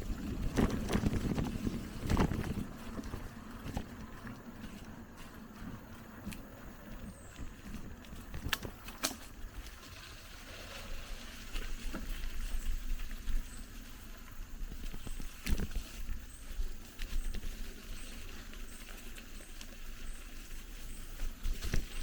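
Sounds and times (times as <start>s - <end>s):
bike rattling on rough trail: 0.0s - 22.0s.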